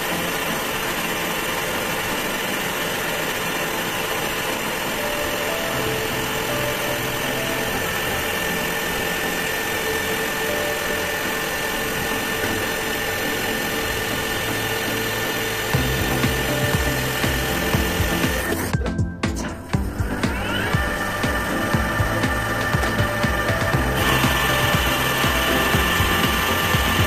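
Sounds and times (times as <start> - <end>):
metal lathe running: 0.0 - 27.0.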